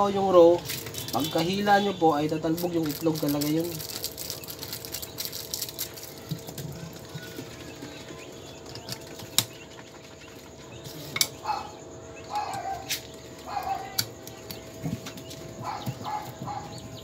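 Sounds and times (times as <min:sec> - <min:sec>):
chickens clucking: 0:00.0 - 0:17.0
steady faint hum: 0:00.0 - 0:17.0.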